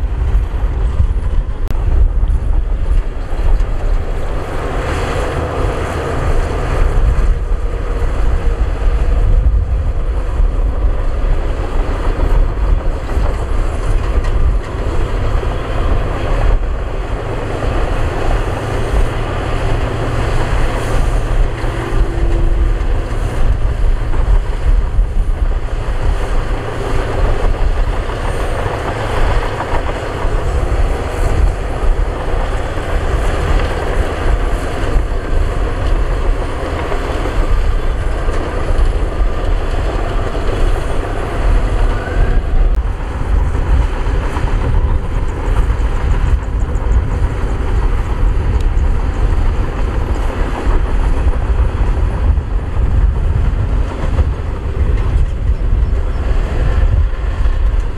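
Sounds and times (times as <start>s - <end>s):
heavy diesel machinery rumbling: 0.0s - 57.9s.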